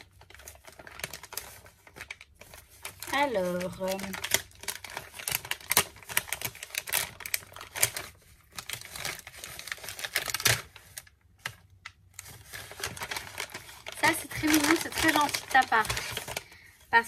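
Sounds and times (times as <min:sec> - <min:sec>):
gift package crinkling: 0:00.0 - 0:17.0.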